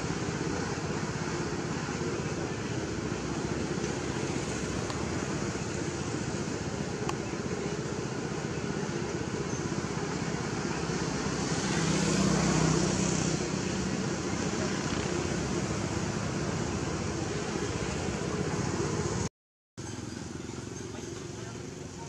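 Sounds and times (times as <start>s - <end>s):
outdoor background noise: 0.0s - 22.0s
vehicle engine passing: 0.0s - 22.0s.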